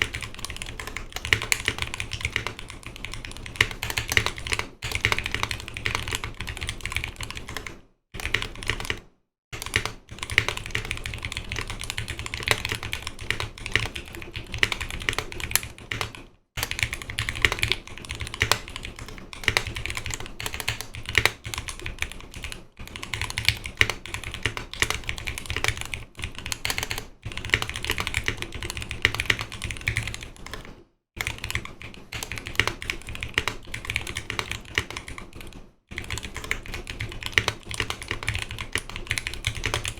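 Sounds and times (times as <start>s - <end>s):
mechanical keyboard typing: 0.0s - 9.0s, 9.6s - 39.9s.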